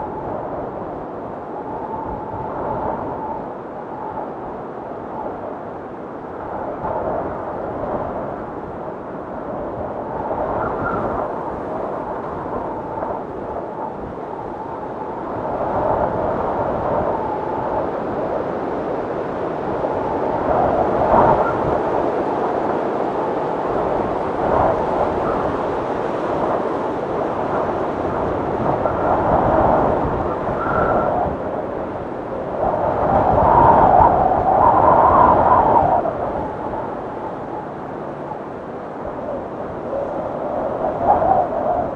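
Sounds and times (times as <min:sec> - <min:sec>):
faint high wind whistle: 0:00.0 - 0:41.9
gusting blizzard wind: 0:00.0 - 0:41.9.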